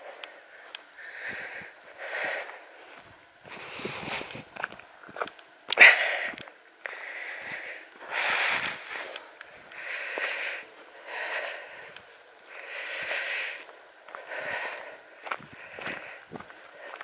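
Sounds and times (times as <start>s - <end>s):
person breathing hard: 0.0s - 4.6s, 5.7s - 17.0s
footsteps on dirt path: 0.0s - 17.0s.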